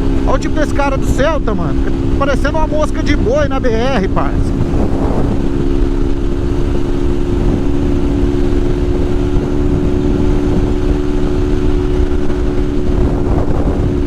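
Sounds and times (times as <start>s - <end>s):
motorcycle engine cruising: 0.0s - 14.0s
wind rumble on microphone: 0.0s - 14.0s.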